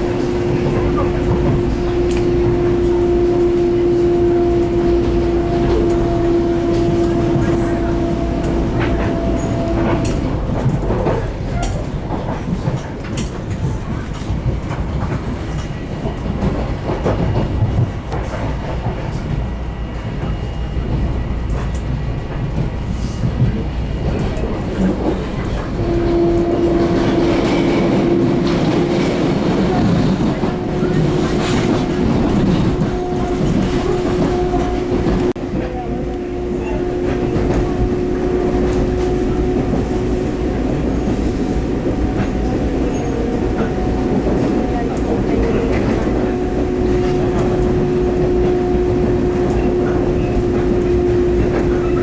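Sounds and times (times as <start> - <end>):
train hum: 0.0 - 52.0
train wheels rumbling on rail: 0.0 - 52.0.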